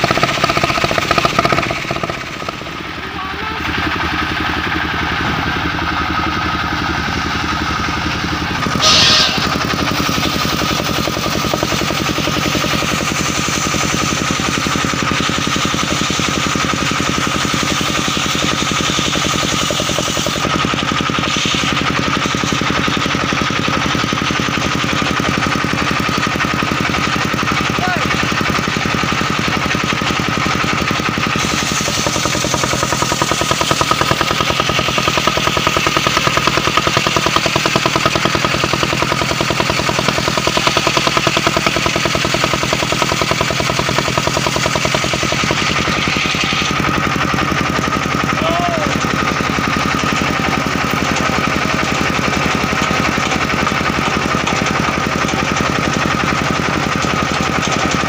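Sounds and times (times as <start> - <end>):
saw blade cutting log: 0.0 - 58.0
sawmill engine running: 0.0 - 58.0.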